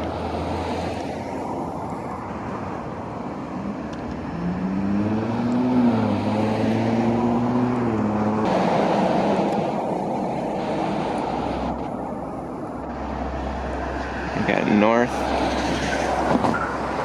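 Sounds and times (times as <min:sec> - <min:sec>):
passing car engine: 0:00.0 - 0:17.0
road traffic noise: 0:00.0 - 0:17.0.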